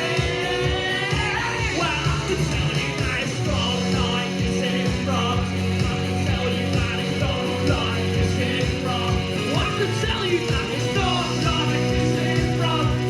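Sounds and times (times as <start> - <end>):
bass guitar: 0.0 - 13.0
guitars: 0.0 - 13.0
steady drum beat: 0.0 - 13.0.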